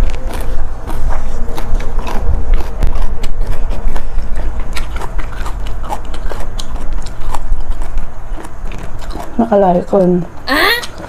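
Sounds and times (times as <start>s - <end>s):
close chewing with mouth clicks: 0.0s - 11.0s.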